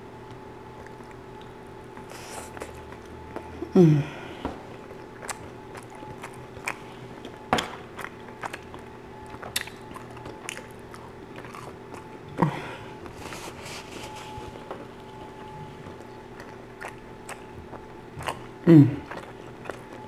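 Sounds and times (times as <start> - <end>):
person chewing bread: 0.0 - 20.0.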